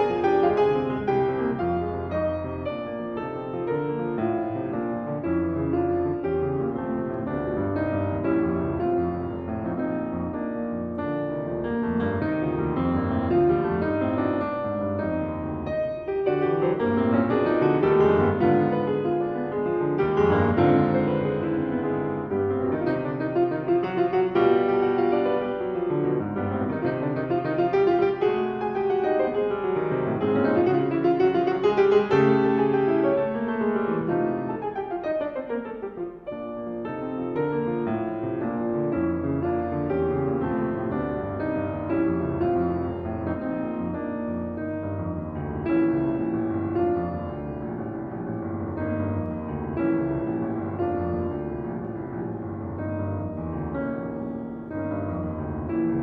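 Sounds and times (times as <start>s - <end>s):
solo piano piece: 0.0s - 56.0s.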